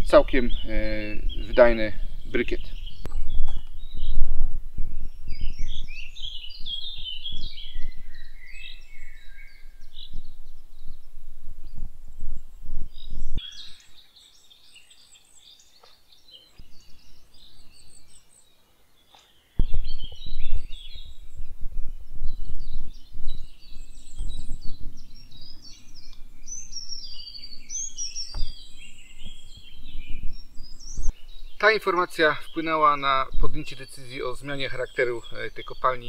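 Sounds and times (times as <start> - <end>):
low rumbling microphone noise: 0.0 - 13.4, 19.6 - 36.0
songbirds singing and chirping: 0.0 - 36.0.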